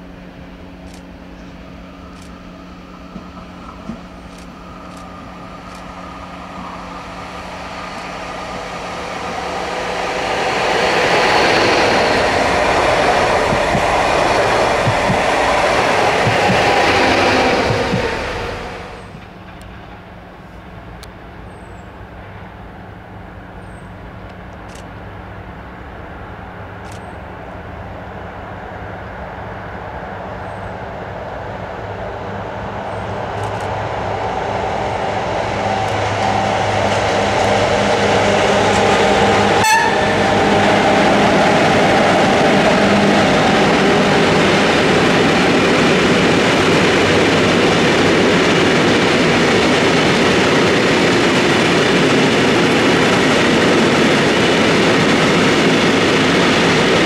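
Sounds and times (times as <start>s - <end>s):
train wheels rumbling on rails: 0.0s - 28.6s, 29.2s - 57.0s.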